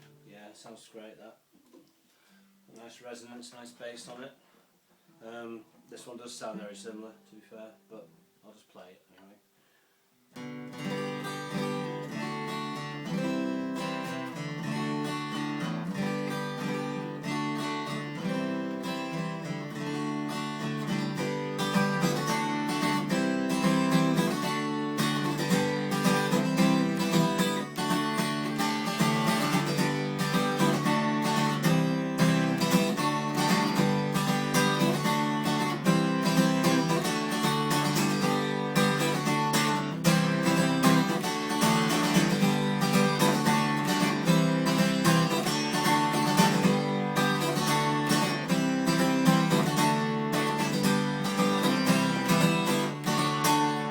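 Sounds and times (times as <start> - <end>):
acoustic guitar strumming chords: 10.3 - 53.9.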